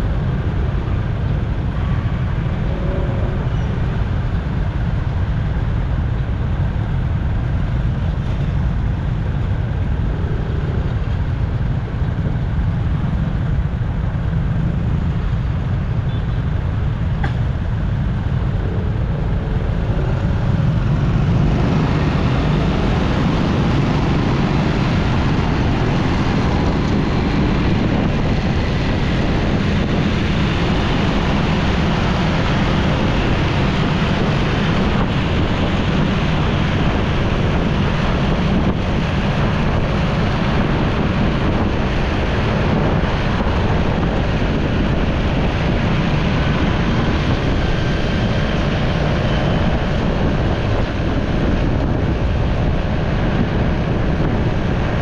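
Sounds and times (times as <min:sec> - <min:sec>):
motorcycle engine rumble: 0:00.0 - 0:55.0
road traffic: 0:00.0 - 0:55.0
wind rushing over microphone: 0:00.0 - 0:55.0.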